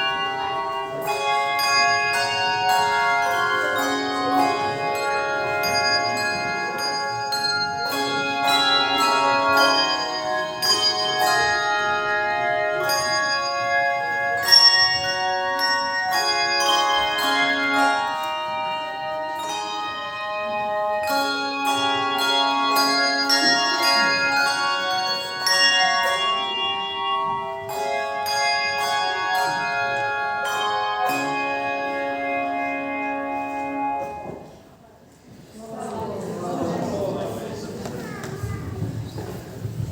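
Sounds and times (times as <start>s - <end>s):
bell ensemble playing: 0.0s - 34.6s.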